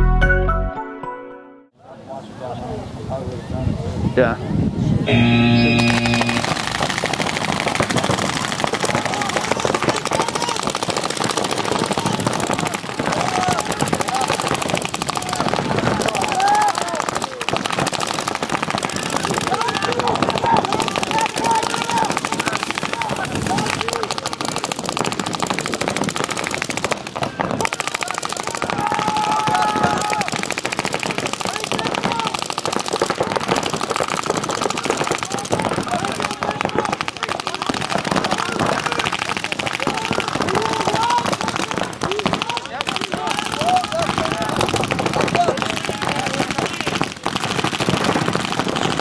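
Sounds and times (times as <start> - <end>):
paintball markers firing rapidly: 5.8 - 49.0.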